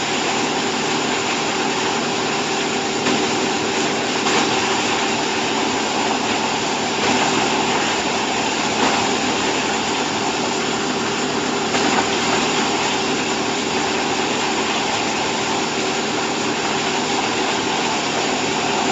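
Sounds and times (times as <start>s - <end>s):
baler motor and pump hum: 0.0s - 18.9s.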